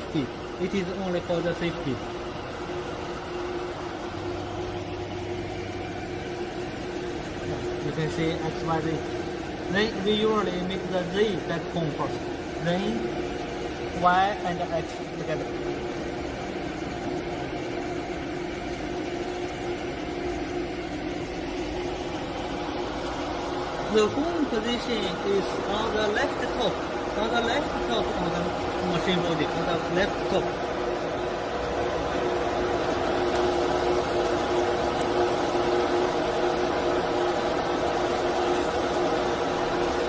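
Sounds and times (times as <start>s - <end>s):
machine motors humming and whining: 0.0s - 40.0s.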